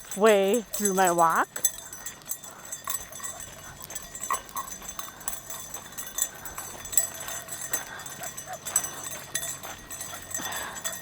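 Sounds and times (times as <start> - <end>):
footsteps on road: 0.0 - 11.0.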